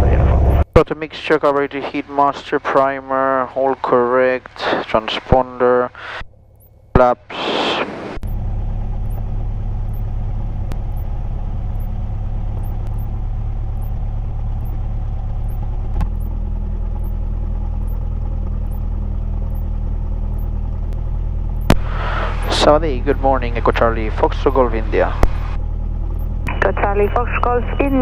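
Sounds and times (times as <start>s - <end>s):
aircraft engine idling: 0.0s - 28.0s.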